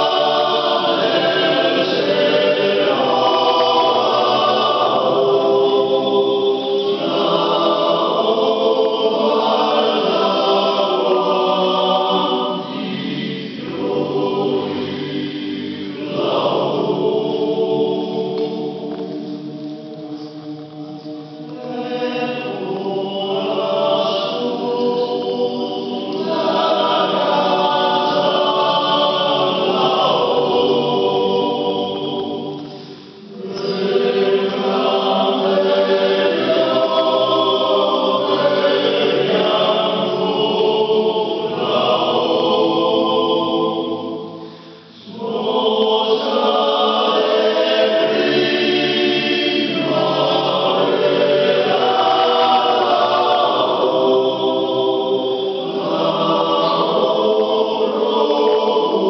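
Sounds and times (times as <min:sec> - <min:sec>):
men's choir singing in harmony: 0:00.0 - 0:59.0.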